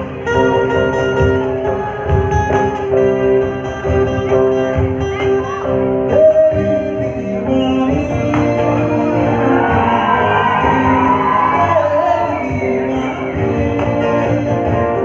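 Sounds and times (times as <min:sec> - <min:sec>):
cajon beat: 0:00.0 - 0:15.0
electric guitar: 0:00.0 - 0:15.0
strummed acoustic guitar: 0:00.0 - 0:15.0.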